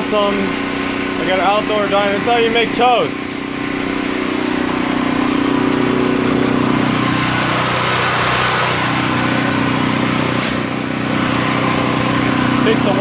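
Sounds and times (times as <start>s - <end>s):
generator engine droning: 0.0s - 13.0s.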